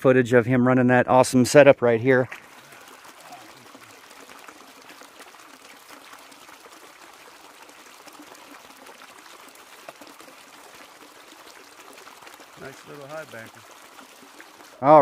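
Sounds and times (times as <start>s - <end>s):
water rushing down a sluice box: 2.1s - 15.0s.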